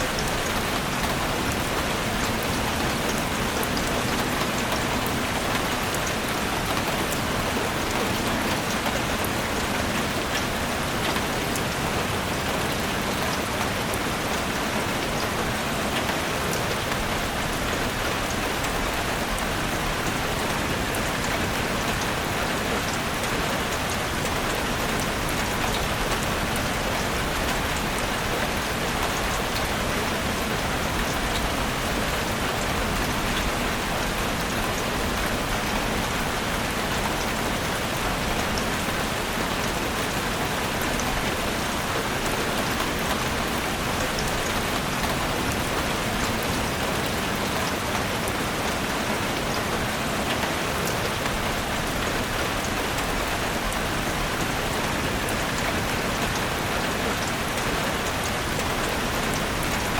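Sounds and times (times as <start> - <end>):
rain falling in a forest: 0.0 - 59.9.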